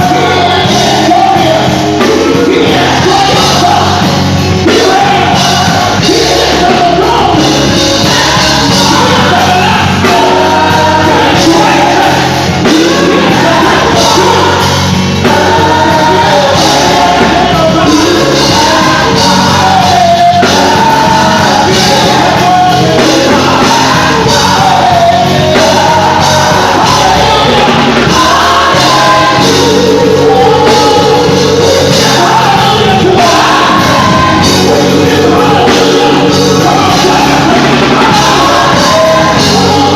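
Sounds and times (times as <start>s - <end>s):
band playing gospel music: 0.0s - 39.9s
choir singing: 0.0s - 39.9s
person singing lead: 0.0s - 39.9s.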